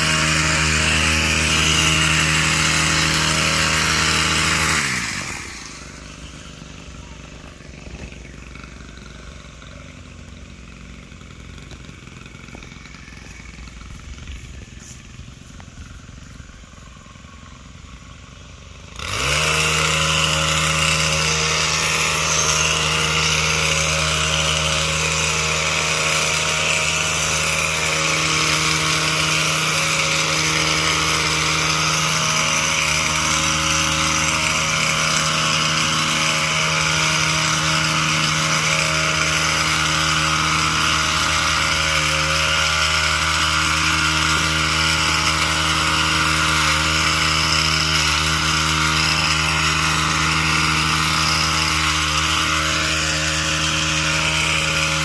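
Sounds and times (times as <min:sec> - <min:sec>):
string trimmer engine running: 0:00.0 - 0:55.0.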